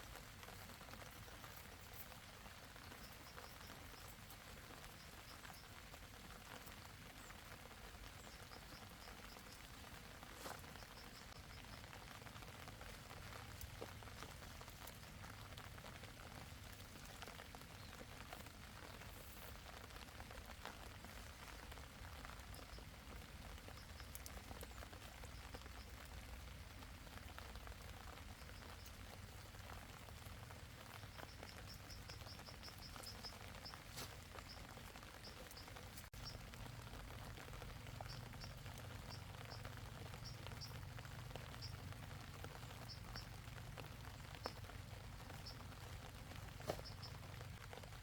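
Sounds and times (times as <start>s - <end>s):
light rain pattering: 0.0s - 48.0s.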